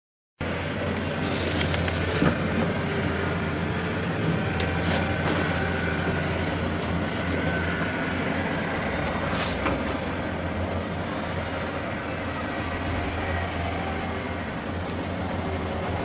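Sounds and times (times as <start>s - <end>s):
noisy rumble: 0.4s - 16.0s.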